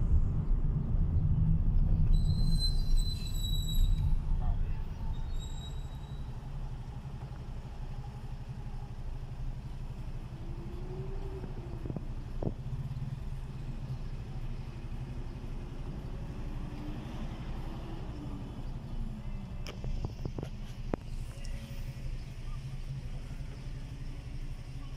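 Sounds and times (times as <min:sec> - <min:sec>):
engines idling in traffic: 0:00.0 - 0:24.9.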